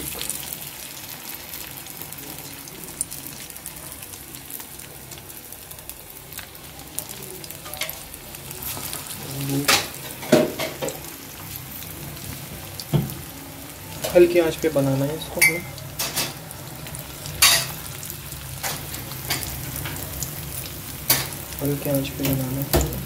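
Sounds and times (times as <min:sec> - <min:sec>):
food deep-frying in hot oil: 0:00.0 - 0:23.0.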